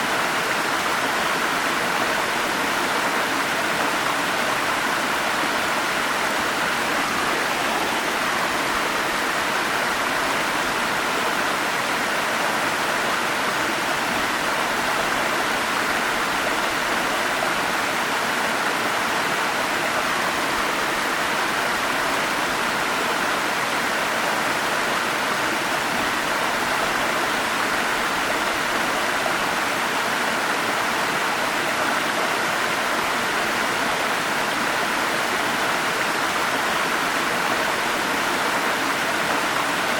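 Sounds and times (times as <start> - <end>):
forest stream rushing: 0.0 - 39.9.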